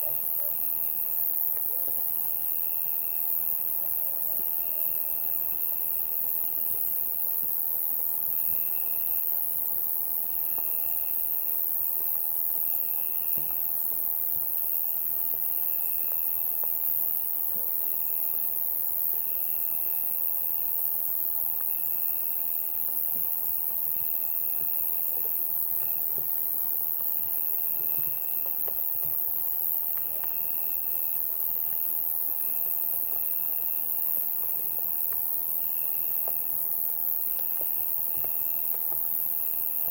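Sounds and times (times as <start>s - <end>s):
cricket trilling: 0.0s - 39.9s
insects buzzing: 0.0s - 39.9s.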